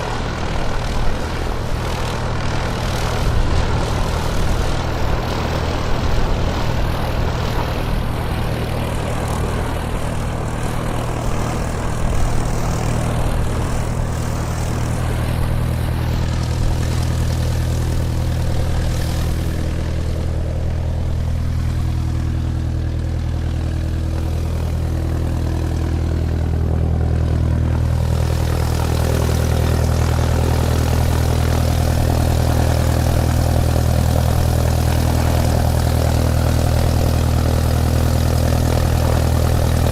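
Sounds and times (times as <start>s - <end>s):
airplane engine drone: 0.0s - 39.9s.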